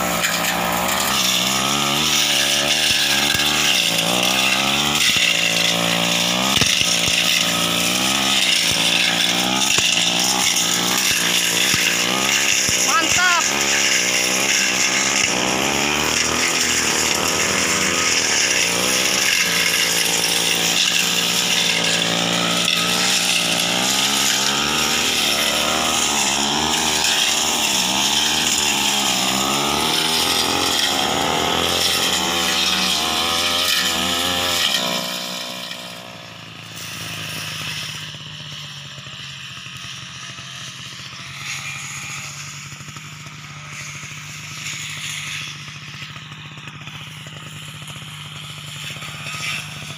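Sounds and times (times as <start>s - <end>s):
brush cutter engine running: 0.0s - 49.9s.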